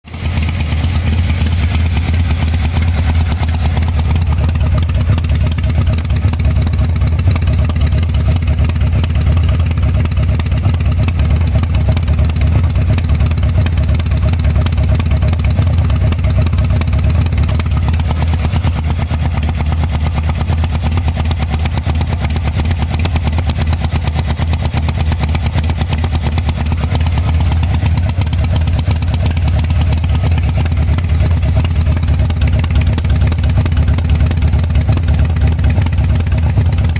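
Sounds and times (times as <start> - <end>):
motorcycle engine misfiring: 0.0 - 36.9.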